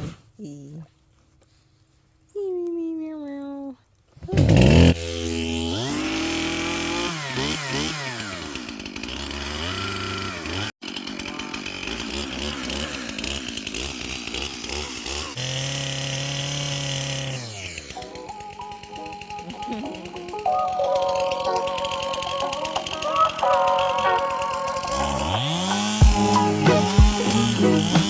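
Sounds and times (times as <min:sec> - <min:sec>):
chainsaw revving: 0:04.3 - 0:28.0.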